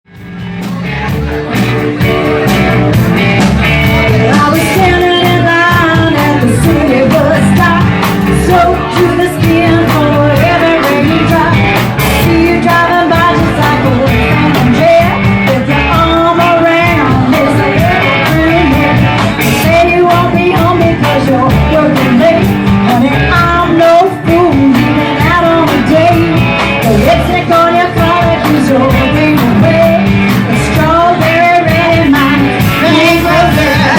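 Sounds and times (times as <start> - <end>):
live rock band playing: 0.1 - 33.9
person singing: 0.6 - 33.9.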